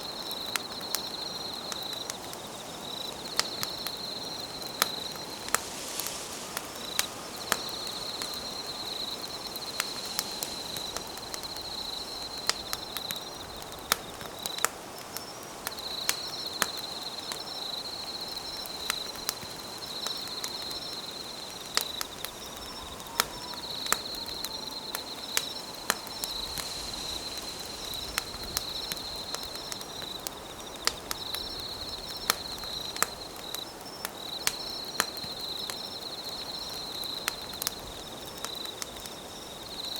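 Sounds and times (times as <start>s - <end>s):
campfire crackling and popping: 0.0s - 39.9s
insects trilling: 0.0s - 39.9s.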